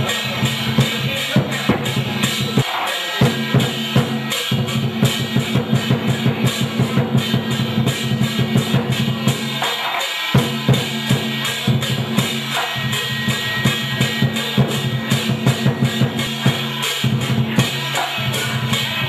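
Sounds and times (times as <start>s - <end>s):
drums and cymbals fast rhythm: 0.0s - 19.0s.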